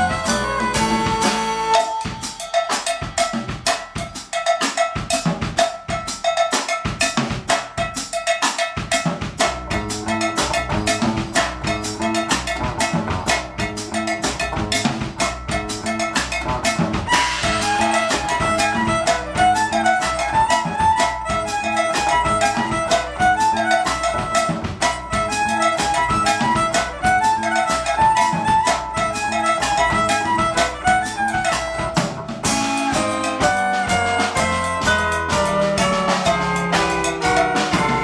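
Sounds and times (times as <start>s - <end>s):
bass line: 0.0s - 2.4s, 9.2s - 38.0s
band playing: 0.0s - 38.0s
drum kit solo: 0.0s - 38.0s.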